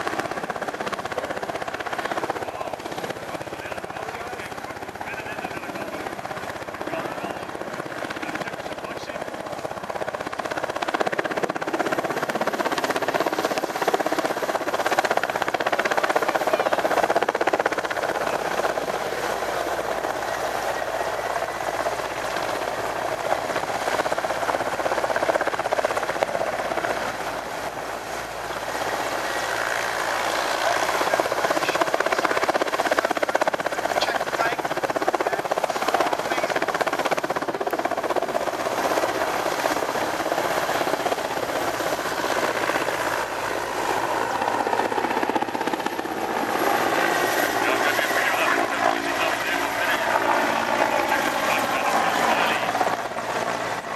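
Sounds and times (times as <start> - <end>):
helicopters flying past: 0.0 - 53.9.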